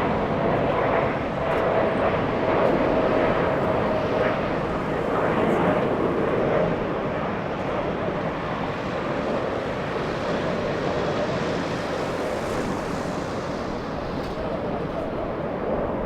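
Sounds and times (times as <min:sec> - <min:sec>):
jet engine rushing: 0:00.0 - 0:16.0.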